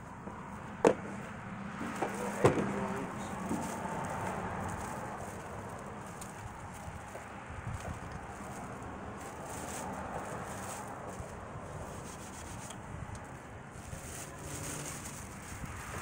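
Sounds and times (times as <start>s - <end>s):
plastic bag rustling and crinkling: 1.7s - 12.7s, 13.3s - 16.0s.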